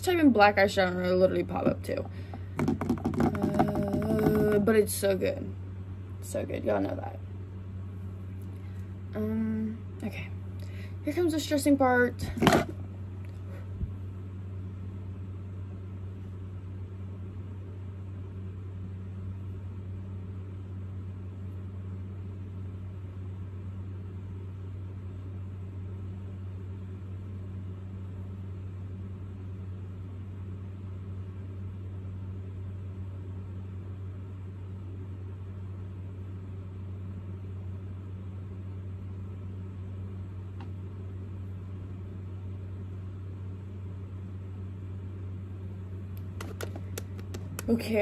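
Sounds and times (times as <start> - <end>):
fan hum with faint hiss: 0.0 - 48.0.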